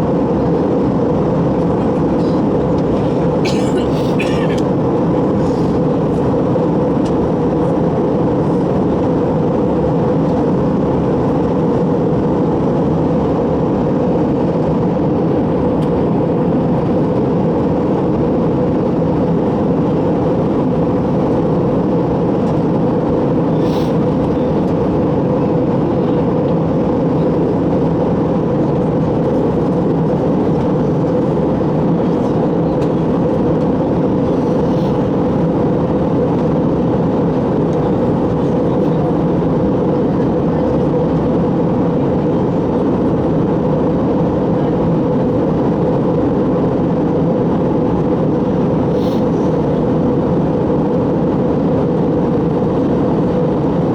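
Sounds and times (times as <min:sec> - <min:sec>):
airliner cabin engine and airflow noise: 0:00.0 - 0:53.9.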